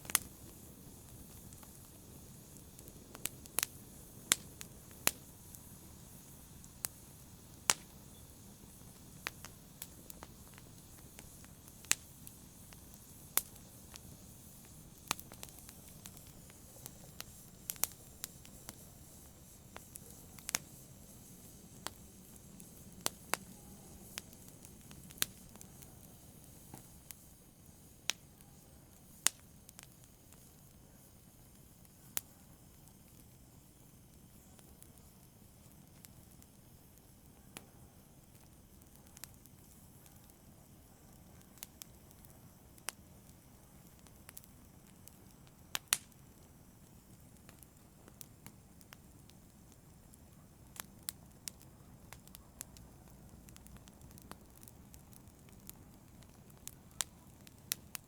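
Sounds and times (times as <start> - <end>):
fire crackling: 0.0 - 58.0
hiss of burning: 0.0 - 58.0.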